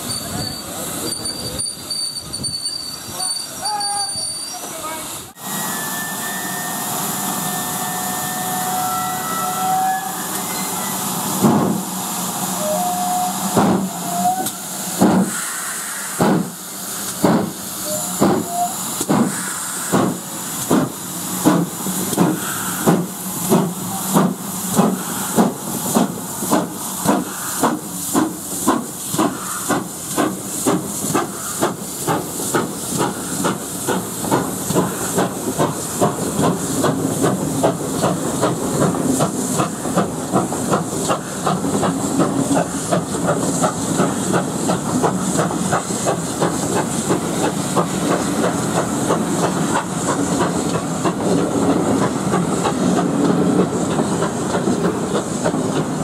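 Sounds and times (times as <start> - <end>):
steam hissing: 0.0 - 56.0
steam locomotive exhaust chuffs: 0.0 - 56.0.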